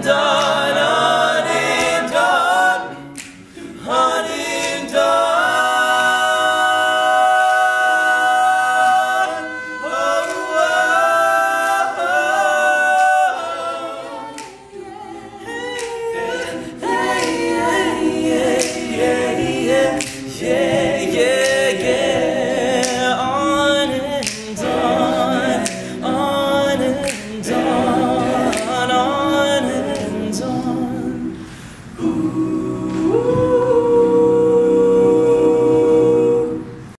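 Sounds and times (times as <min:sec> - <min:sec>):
male a cappella group singing: 0:00.0 - 0:36.9.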